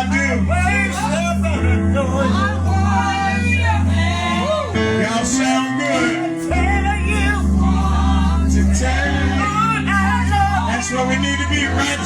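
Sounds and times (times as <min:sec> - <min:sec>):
keyboard chords: 0:00.0 - 0:12.0
steady bass: 0:00.0 - 0:12.0
voices singing gospel: 0:00.0 - 0:12.0.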